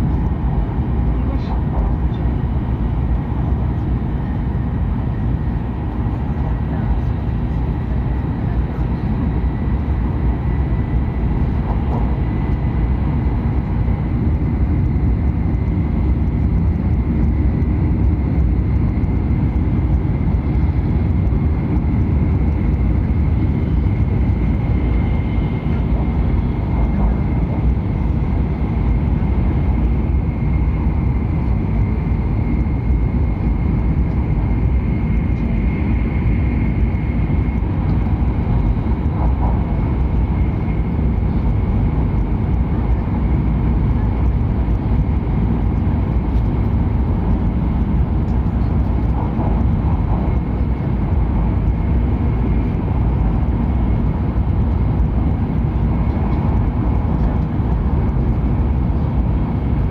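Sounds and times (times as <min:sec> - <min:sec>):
train rumble inside cabin: 0:00.0 - 0:59.9.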